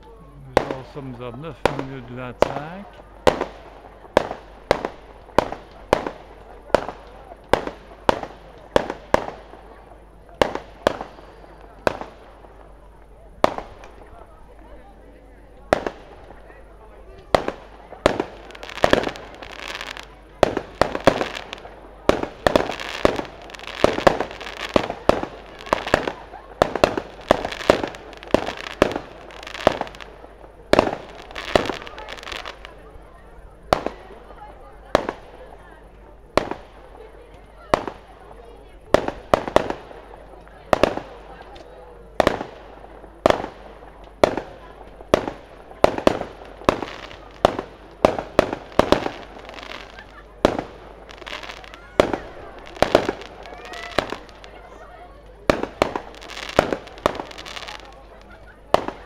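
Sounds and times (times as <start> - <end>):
fireworks bursting bangs: 0.4 - 14.7, 15.6 - 59.0.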